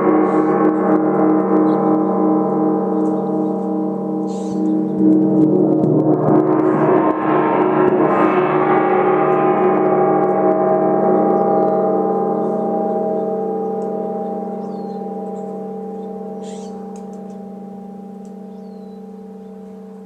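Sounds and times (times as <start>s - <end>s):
gong ringing: 0.0s - 20.0s.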